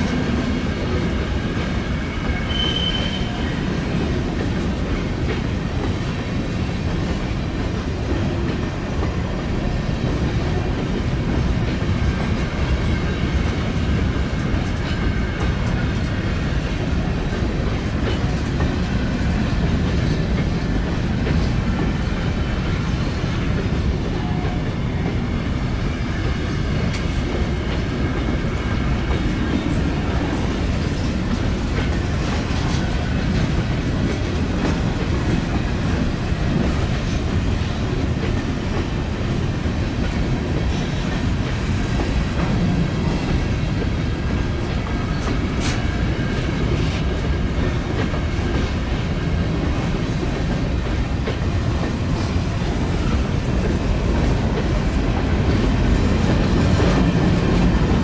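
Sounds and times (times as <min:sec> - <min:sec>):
train wheels clicking on rails: 0:00.0 - 0:58.0.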